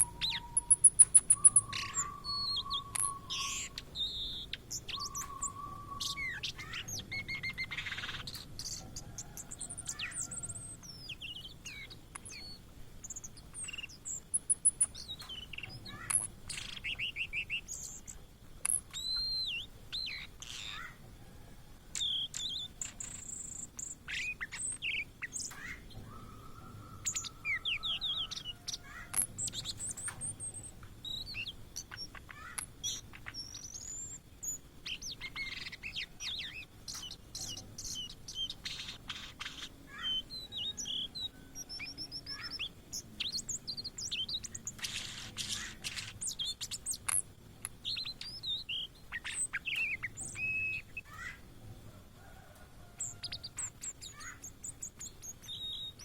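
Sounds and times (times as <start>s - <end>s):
bird singing whistled notes: 0.0s - 47.2s, 47.8s - 51.4s, 52.9s - 56.0s.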